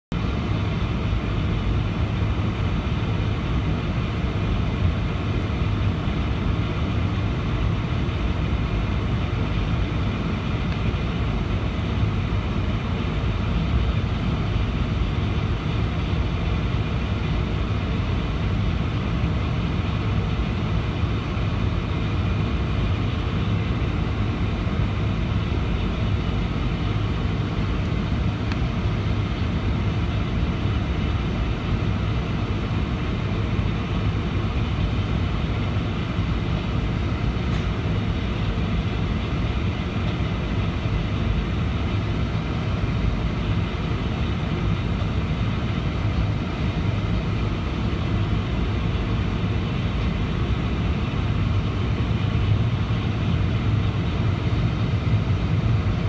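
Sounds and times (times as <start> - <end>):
jet engines humming in cabin: 0.1 - 56.0.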